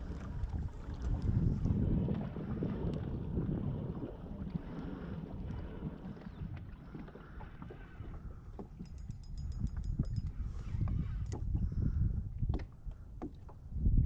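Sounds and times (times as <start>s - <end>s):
water splashing on hull: 0.0s - 14.0s
wind buffeting microphone: 0.0s - 14.0s.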